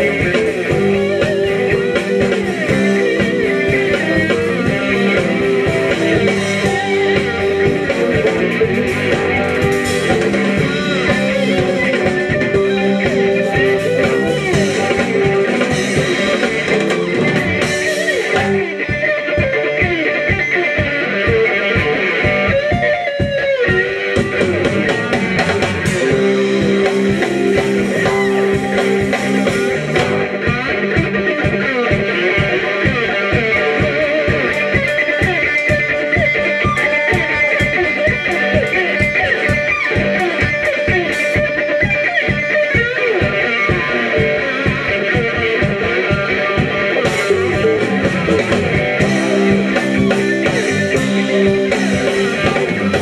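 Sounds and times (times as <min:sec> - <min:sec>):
electric blues band playing: 0:00.0 - 0:53.0.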